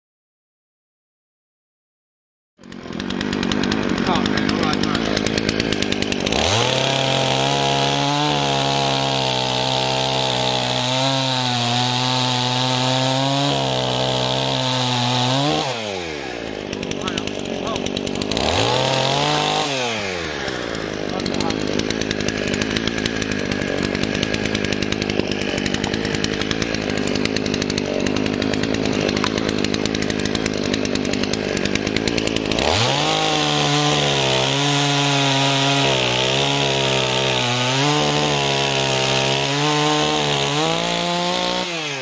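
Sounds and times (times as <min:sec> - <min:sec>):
chainsaw idling and cutting log: 0:02.6 - 0:42.0.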